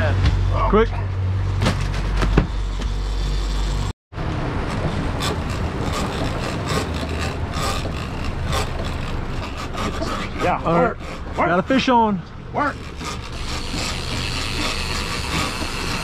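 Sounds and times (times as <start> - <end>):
outboard motors running: 0.0 - 16.0.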